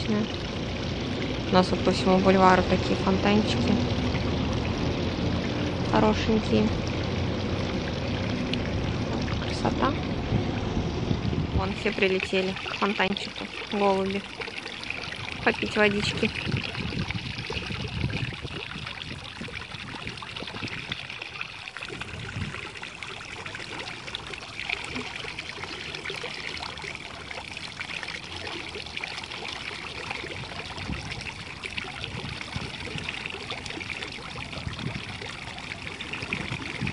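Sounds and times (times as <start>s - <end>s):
fountain water splashing: 0.0s - 36.9s.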